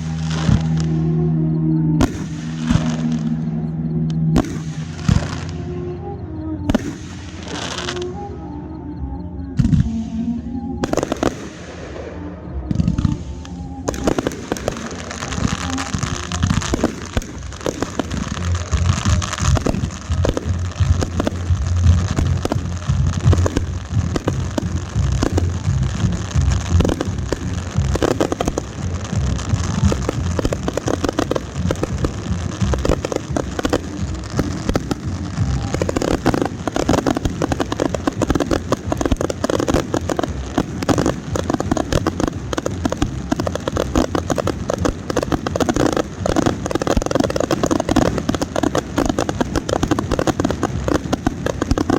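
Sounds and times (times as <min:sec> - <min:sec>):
fireworks booms: 0:00.0 - 0:08.3, 0:09.6 - 0:51.9
fireworks crackling and popping: 0:00.0 - 0:08.9, 0:09.5 - 0:51.9.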